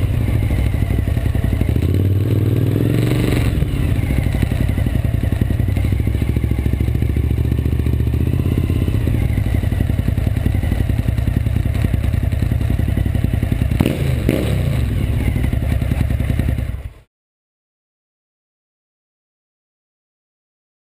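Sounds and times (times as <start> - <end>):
motorcycle engine pulsing: 0.0 - 17.1.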